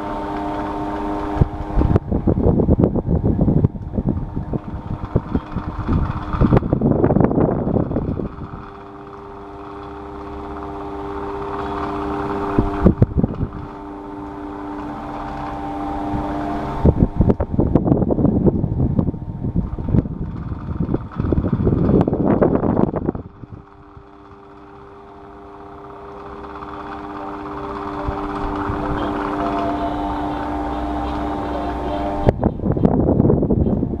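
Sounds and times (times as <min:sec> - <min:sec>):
rough irregular rattling: 0:00.0 - 0:33.6
electric fan motor hum: 0:00.0 - 0:34.0.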